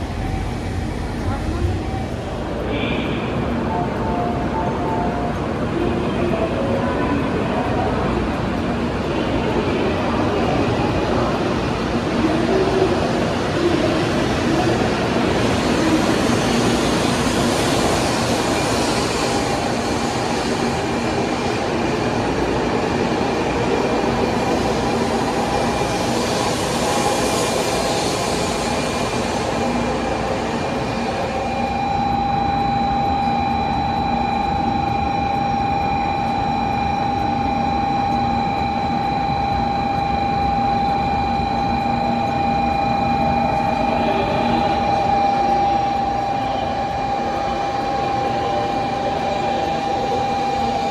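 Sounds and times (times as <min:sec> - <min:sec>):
steady whine: 0:00.0 - 0:50.9
train rushing with humming tones: 0:00.0 - 0:50.9.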